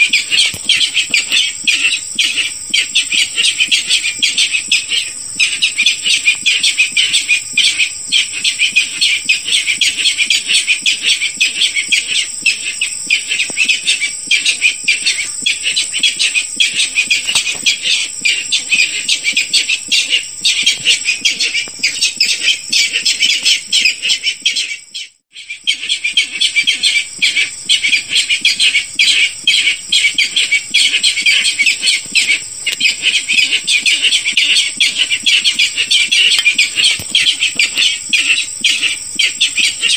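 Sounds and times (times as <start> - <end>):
rapid high bird calls: 0.0 - 39.9.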